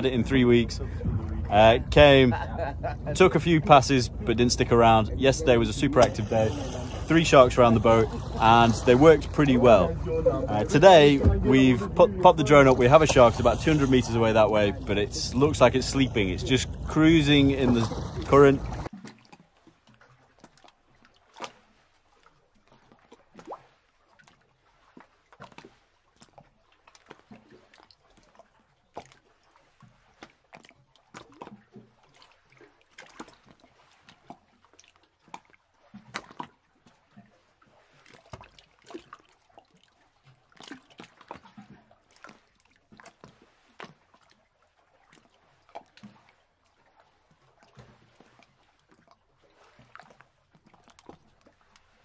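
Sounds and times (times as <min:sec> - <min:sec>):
water lapping around boat: 0:00.0 - 0:52.0.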